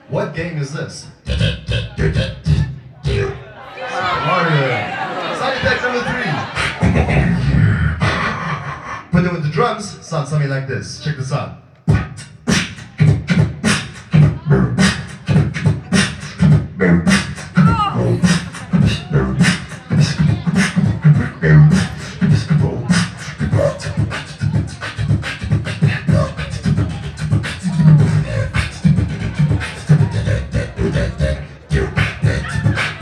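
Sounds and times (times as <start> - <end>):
beatboxing through speaker: 0.0 - 3.6, 5.5 - 10.2, 11.1 - 33.0.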